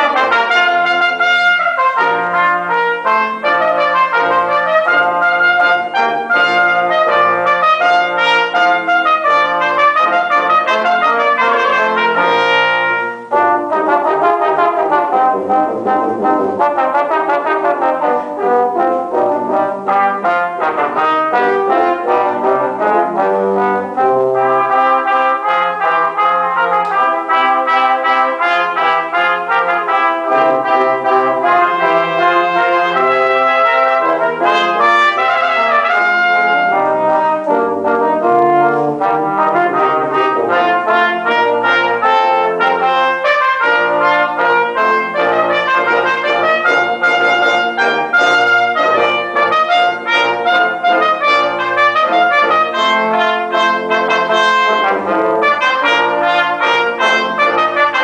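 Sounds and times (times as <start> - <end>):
brass quintet playing: 0.0 - 58.0.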